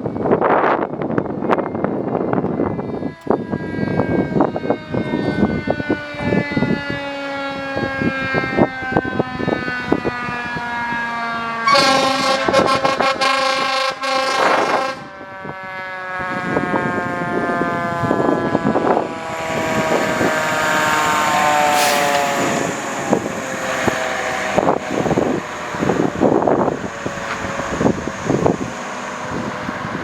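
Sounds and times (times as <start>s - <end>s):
siren with falling pitch: 0.0s - 30.0s
fire engine air horns: 3.2s - 30.0s.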